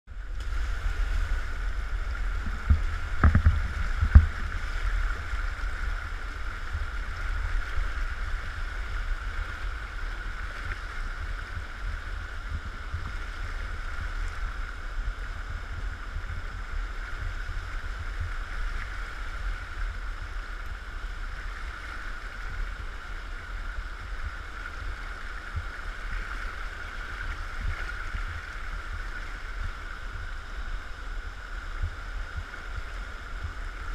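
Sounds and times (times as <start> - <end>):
river current rushing: 0.1 - 33.9
wind on microphone: 0.1 - 33.9.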